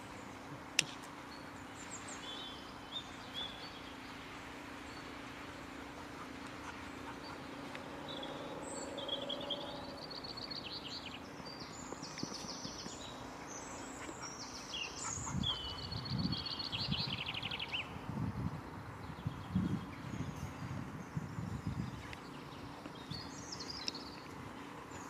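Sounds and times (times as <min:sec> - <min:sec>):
small birds singing: 0:00.0 - 0:25.0
steady low hum: 0:00.0 - 0:25.0.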